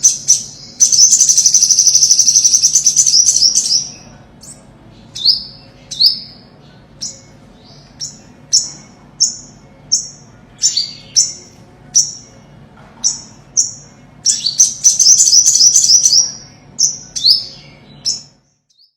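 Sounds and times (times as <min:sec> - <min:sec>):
fast twittering trill: 0:00.0 - 0:12.4, 0:13.0 - 0:18.4
sunbird high chirps: 0:00.0 - 0:18.9.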